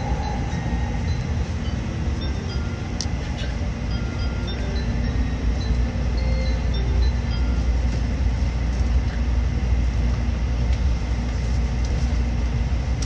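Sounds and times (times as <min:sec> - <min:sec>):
train rumbling inside passenger car: 0:00.0 - 0:13.0.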